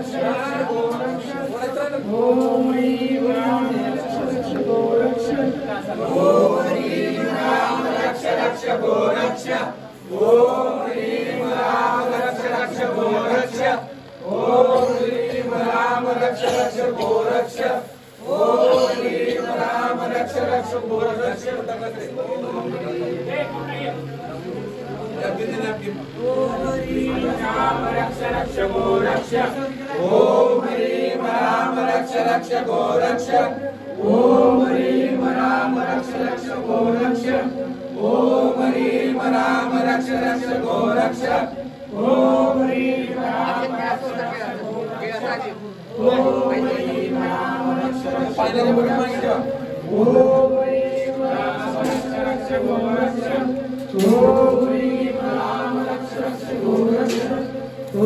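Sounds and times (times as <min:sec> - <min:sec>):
voices chanting a mantra: 0:00.0 - 0:58.0.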